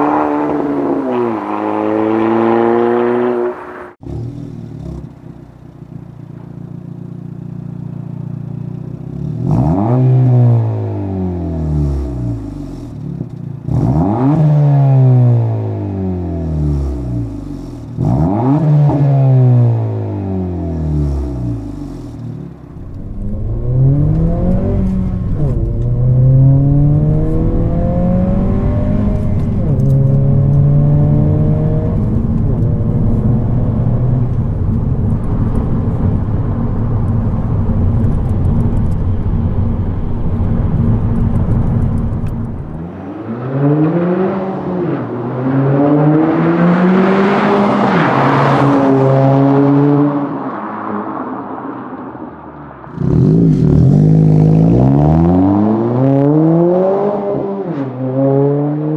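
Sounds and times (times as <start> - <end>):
car engine revving: 0.0 - 5.4, 9.1 - 51.0, 52.8 - 58.9.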